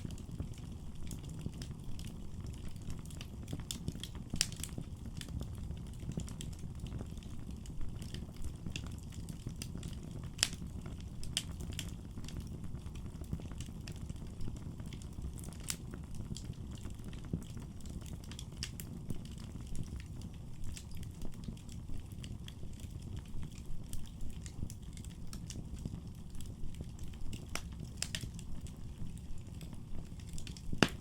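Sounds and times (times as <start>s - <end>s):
burning wood crackling: 0.0s - 31.0s
fire flames rumbling: 0.0s - 31.0s.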